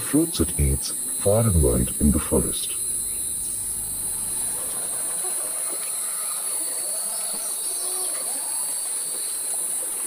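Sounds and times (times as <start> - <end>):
birds calling: 0.0 - 9.0
high-pitched insect drone: 0.0 - 10.0.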